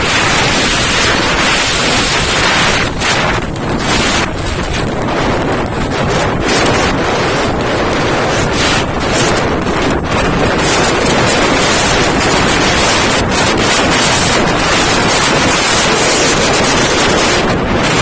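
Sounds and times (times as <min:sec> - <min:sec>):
heavy surf: 0:00.0 - 0:18.0
strong wind buffeting microphone: 0:00.0 - 0:18.0.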